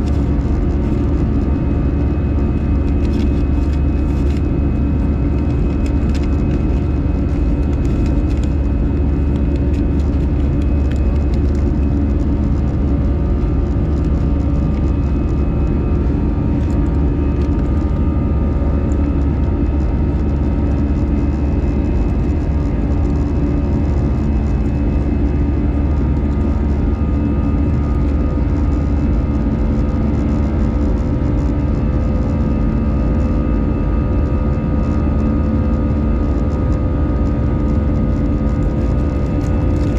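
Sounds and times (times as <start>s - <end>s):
jet engine rumble and rushing air: 0.0s - 39.9s.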